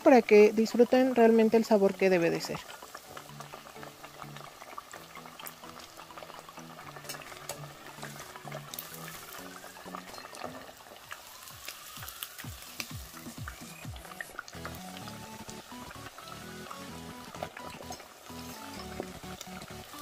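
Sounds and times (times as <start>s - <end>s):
fish deep-frying in oil: 0.0s - 20.0s
soft background music: 0.0s - 20.0s.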